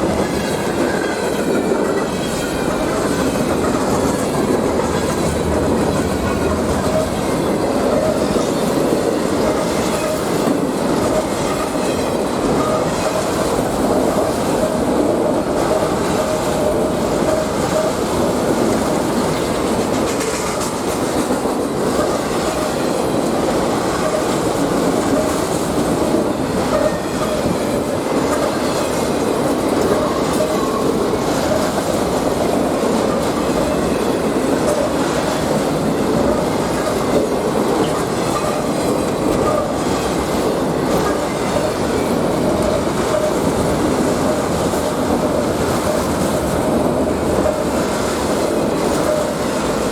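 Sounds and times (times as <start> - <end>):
train wheels clicking on rail joints: 0.0 - 49.9.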